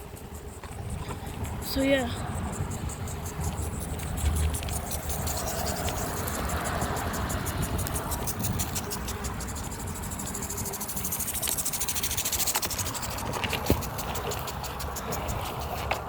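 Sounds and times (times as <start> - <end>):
bicycle freewheel ticking: 0.0 - 16.0
tyre and wind rumble: 0.0 - 16.0.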